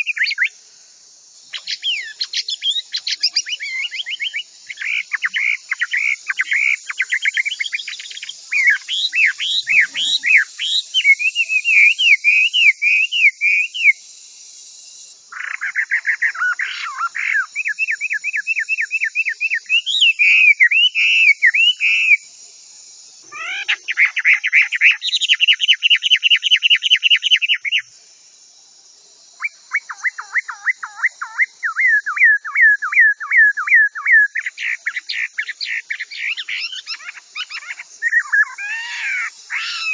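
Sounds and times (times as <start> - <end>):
bird singing whistled notes: 0.0 - 0.6, 1.5 - 14.0, 14.9 - 22.2, 23.4 - 27.9, 29.4 - 39.9.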